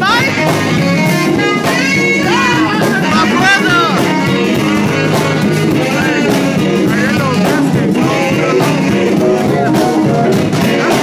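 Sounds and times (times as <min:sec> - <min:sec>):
bending melodic lead line: 0:00.0 - 0:11.0
drum kit with cymbals: 0:00.0 - 0:11.0.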